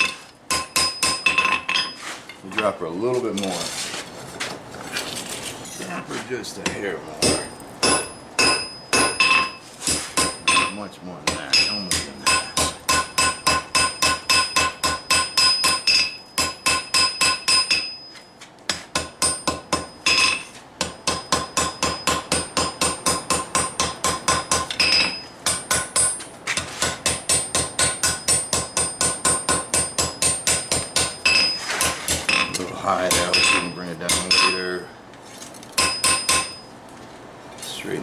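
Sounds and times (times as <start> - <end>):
hammer striking steel on anvil: 0.0 - 2.0, 6.6 - 34.8, 35.8 - 36.6.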